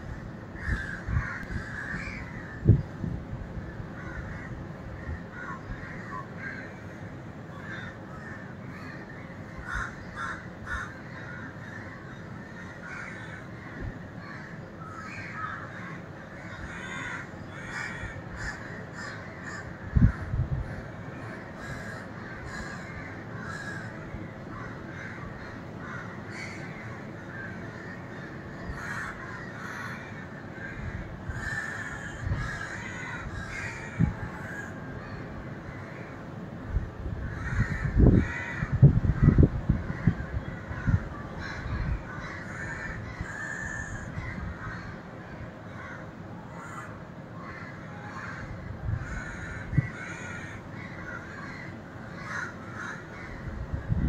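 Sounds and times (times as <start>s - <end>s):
crows cawing: 0.0s - 2.8s, 3.6s - 54.0s.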